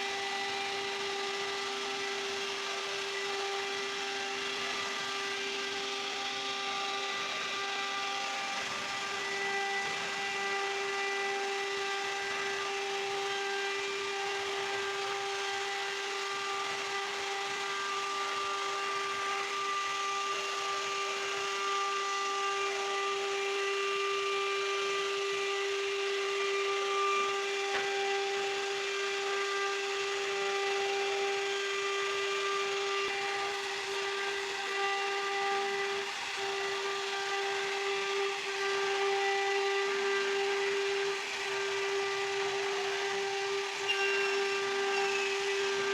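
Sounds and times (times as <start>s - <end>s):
router spindle whining: 0.0s - 45.9s.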